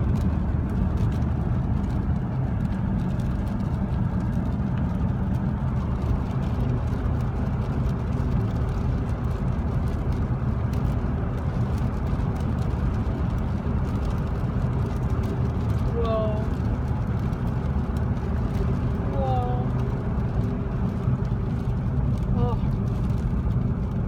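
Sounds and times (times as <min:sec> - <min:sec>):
low engine and road drone: 0:00.0 - 0:24.0.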